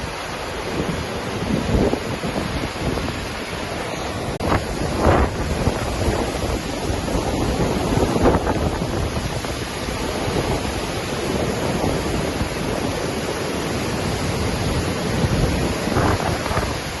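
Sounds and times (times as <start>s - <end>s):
waterfall roaring: 0.0s - 17.0s
wind on microphone: 0.0s - 17.0s.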